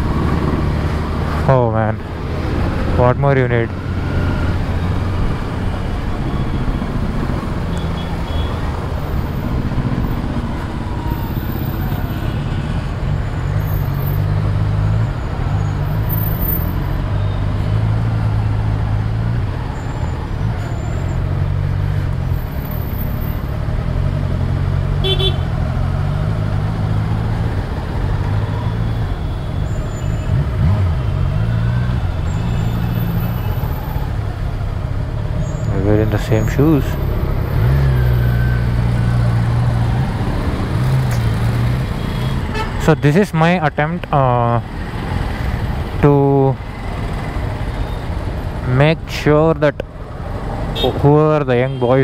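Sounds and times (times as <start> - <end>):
city traffic noise: 0.0 - 52.0.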